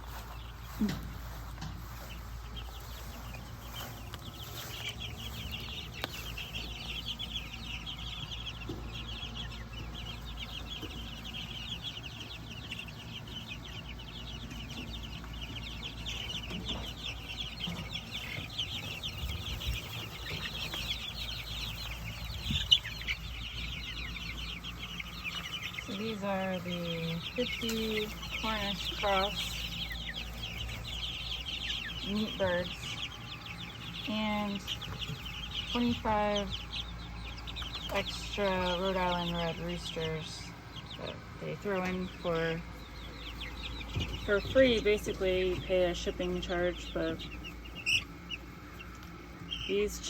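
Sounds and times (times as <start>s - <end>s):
chicks peeping: 0.0s - 50.0s.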